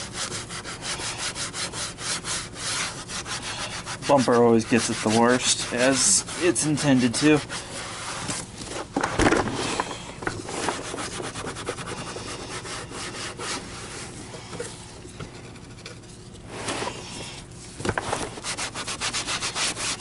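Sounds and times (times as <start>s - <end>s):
scrubbing on hard plastic: 0.0s - 20.0s.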